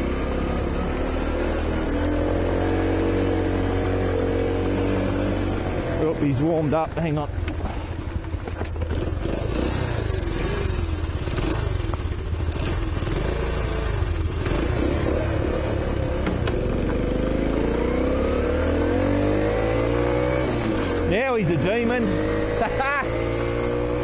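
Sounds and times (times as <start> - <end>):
motorbike engine running: 0.0 - 24.0.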